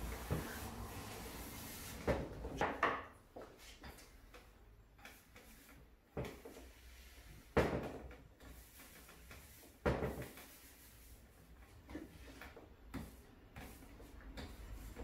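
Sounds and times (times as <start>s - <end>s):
paint roller rolling on wood: 0.0s - 2.7s, 3.4s - 15.0s.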